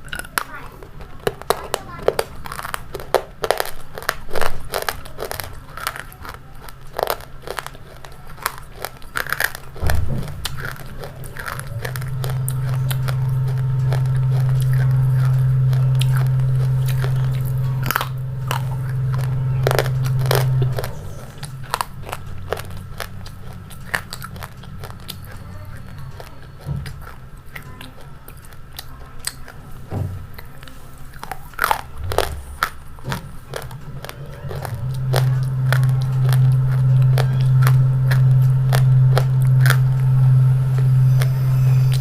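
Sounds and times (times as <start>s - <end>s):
crunchy biting and chewing: 0.0s - 42.0s
steady low hum: 0.0s - 42.0s.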